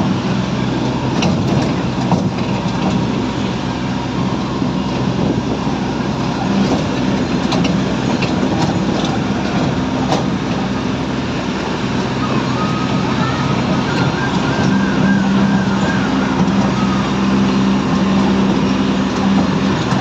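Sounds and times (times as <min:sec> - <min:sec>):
toy train engine hum: 0:00.0 - 0:20.0.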